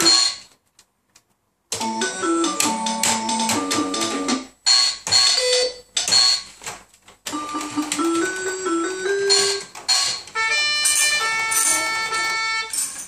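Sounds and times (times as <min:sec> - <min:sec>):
toy keyboard notes: 0:00.0 - 0:00.5, 0:01.7 - 0:06.5, 0:07.3 - 0:13.0.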